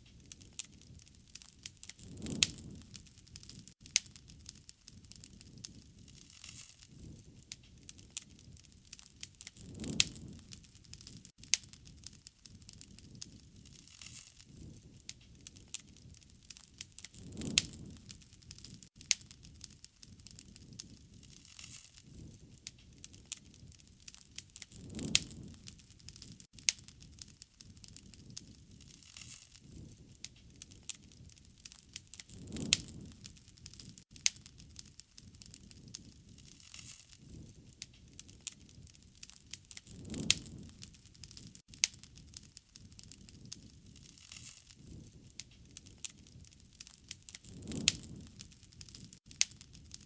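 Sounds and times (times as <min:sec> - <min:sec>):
low rush of flame: 0:00.0 - 0:50.0
sharp snaps and pops: 0:00.0 - 0:50.0
wood fire crackling: 0:00.0 - 0:50.0.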